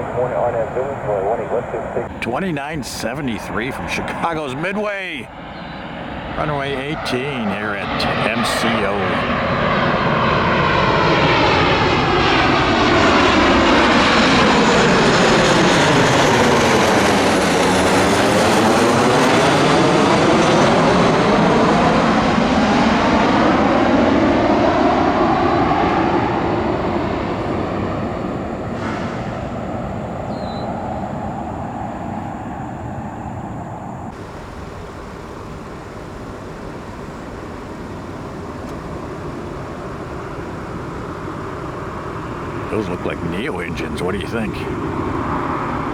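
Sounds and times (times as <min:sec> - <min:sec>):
jet airliner passing overhead: 0:00.0 - 0:45.9.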